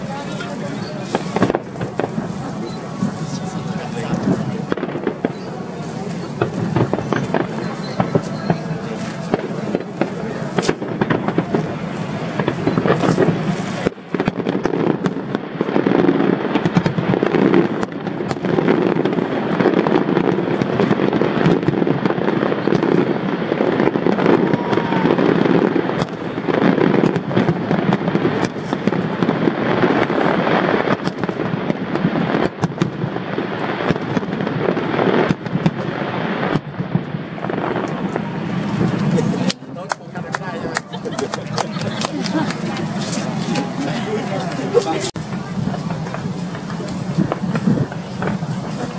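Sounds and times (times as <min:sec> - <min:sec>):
fireworks bangs: 0:00.0 - 0:48.9
fireworks crackling and popping: 0:00.0 - 0:48.9.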